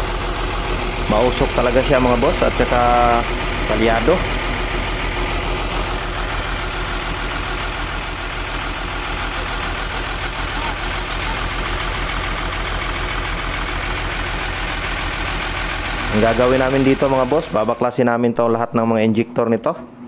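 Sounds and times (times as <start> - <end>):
diesel engine misfiring: 0.0 - 17.8.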